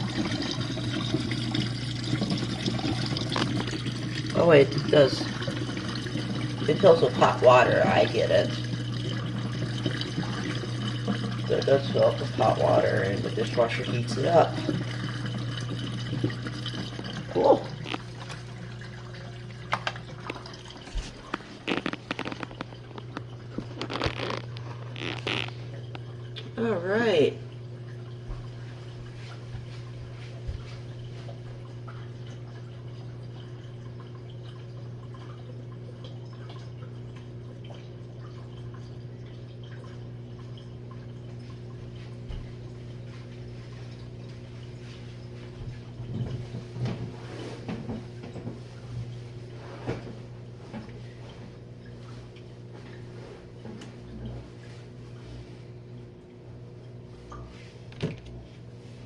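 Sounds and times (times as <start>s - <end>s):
dishwasher hum: 0.0s - 59.0s
water spraying and sloshing: 0.0s - 59.0s.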